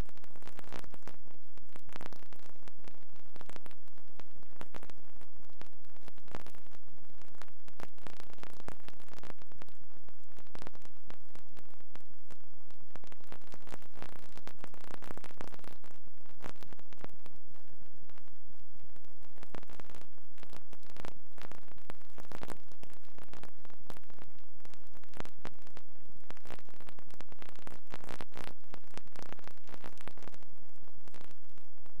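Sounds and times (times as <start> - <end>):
irregular crackles: 0.0 - 32.0.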